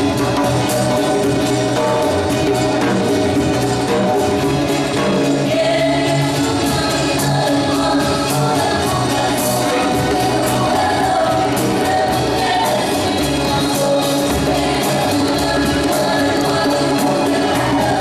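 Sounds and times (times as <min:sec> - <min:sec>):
live band playing: 0:00.0 - 0:18.0
voices singing together: 0:01.8 - 0:18.0.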